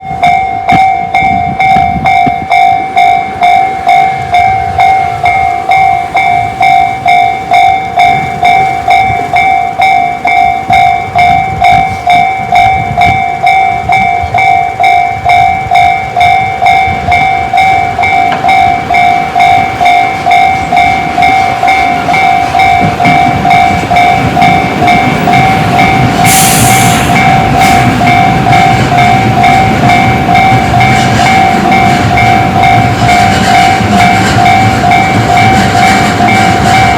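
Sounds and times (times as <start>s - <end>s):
level crossing alarm dinging: 0.0s - 36.9s
train rumble approaching: 0.0s - 36.9s.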